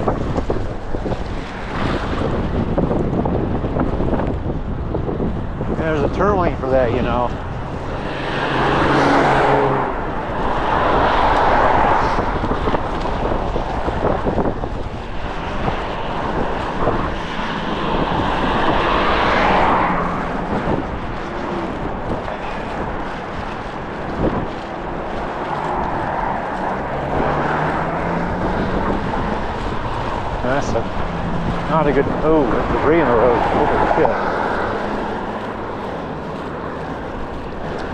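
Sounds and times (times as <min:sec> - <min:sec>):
low engine hum: 0:00.0 - 0:37.9
vehicles passing on road: 0:00.0 - 0:37.9
wind buffeting microphone: 0:00.0 - 0:37.9.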